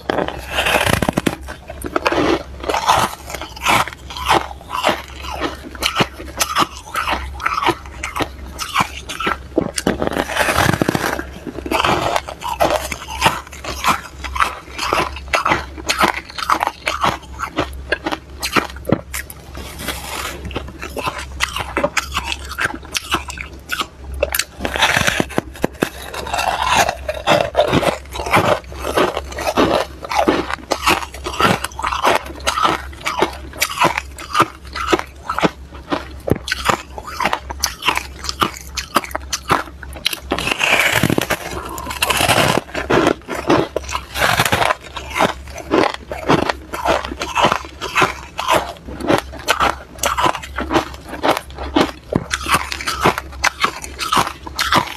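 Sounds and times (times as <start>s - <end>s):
frost being chewed: 0.0s - 54.9s
steady low hum: 0.0s - 54.9s.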